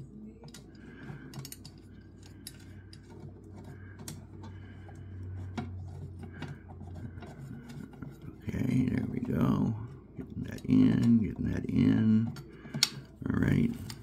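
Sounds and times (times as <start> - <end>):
metallic clicks and scrapes: 0.4 - 14.0.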